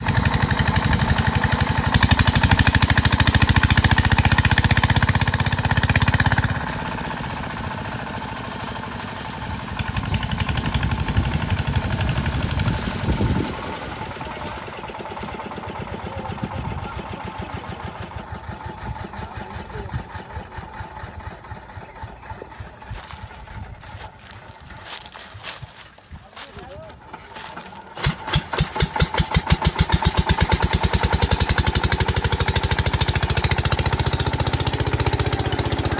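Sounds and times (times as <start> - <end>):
diesel engine knocking: 0.0 - 35.9.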